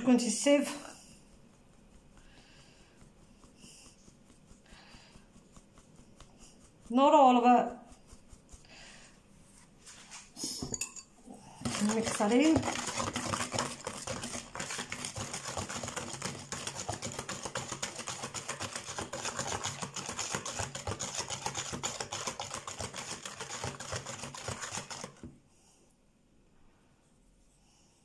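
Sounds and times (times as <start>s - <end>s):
fork beating batter in plastic bowl: 0.0s - 10.2s, 11.4s - 25.4s.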